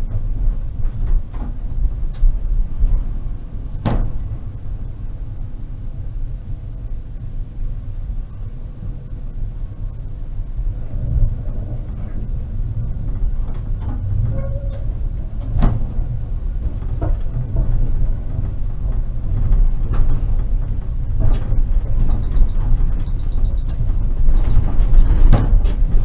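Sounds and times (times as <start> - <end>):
tram rumbling: 0.0 - 26.0.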